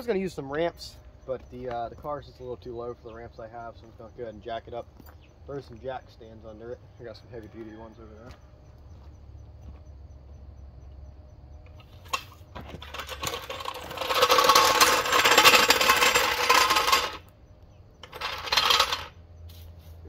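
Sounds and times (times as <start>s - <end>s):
jack wheels crunching on gravel: 0.0s - 9.9s, 11.7s - 17.4s, 18.0s - 20.0s.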